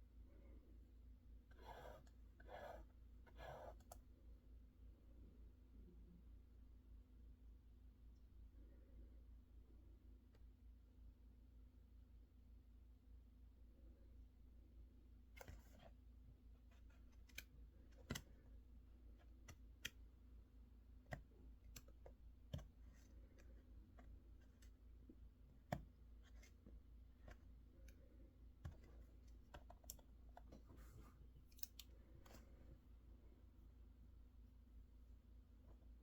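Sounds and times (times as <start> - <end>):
low room hum: 0.0 - 36.0.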